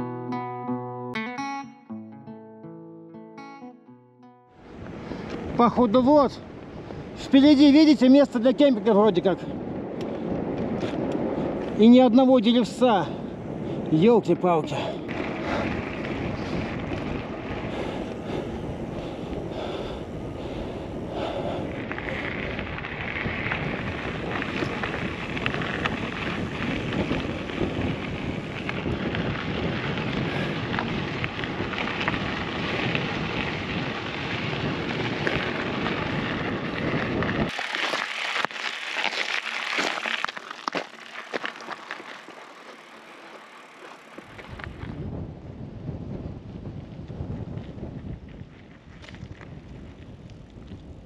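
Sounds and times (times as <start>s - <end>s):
wind buffeting microphone: 4.6s - 51.0s.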